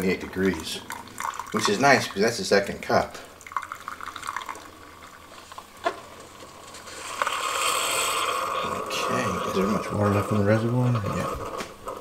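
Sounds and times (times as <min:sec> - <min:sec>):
coffee maker whirring hiss: 0:00.0 - 0:12.0
coffee trickling into mug: 0:00.0 - 0:12.0.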